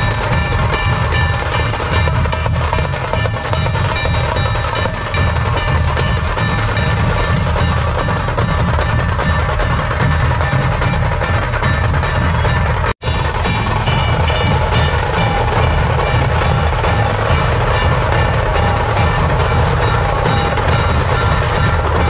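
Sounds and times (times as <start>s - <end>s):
drums playing loudly: 0.0s - 22.0s.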